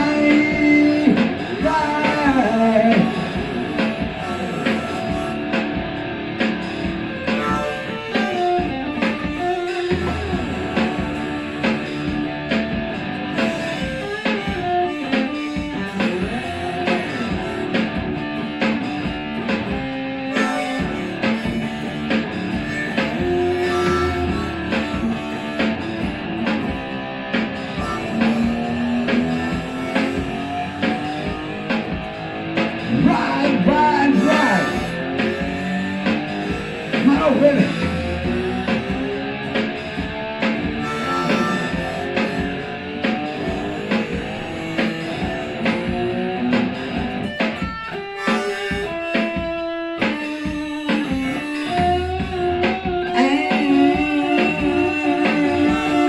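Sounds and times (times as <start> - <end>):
electric guitar solo: 0.0 - 56.0
steady drum beat: 0.0 - 56.0.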